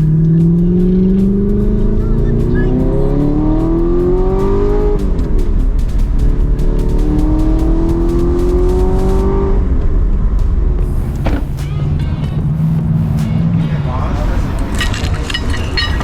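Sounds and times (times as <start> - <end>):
car engine accelerating: 0.0 - 16.0
music: 0.0 - 16.0.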